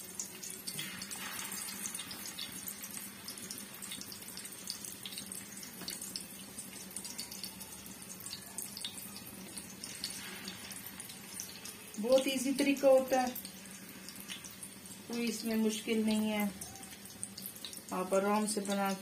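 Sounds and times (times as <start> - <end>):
kebabs sizzling in fat: 0.0 - 19.0.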